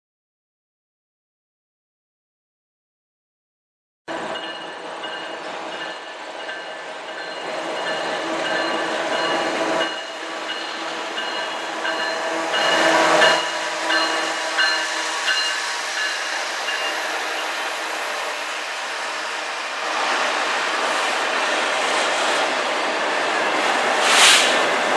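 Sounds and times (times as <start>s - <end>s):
diesel locomotives passing: 4.1s - 24.9s.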